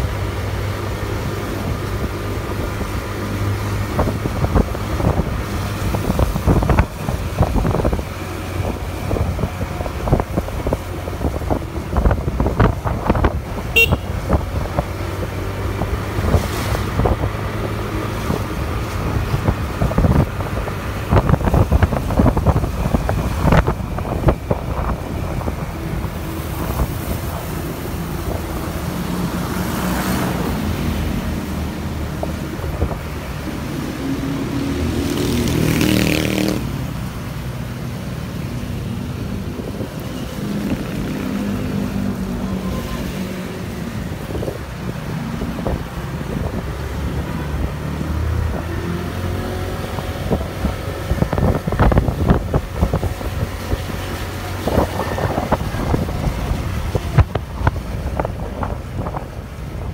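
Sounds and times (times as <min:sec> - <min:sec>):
wind buffeting microphone: 0:00.0 - 0:42.6, 0:43.3 - 0:59.9.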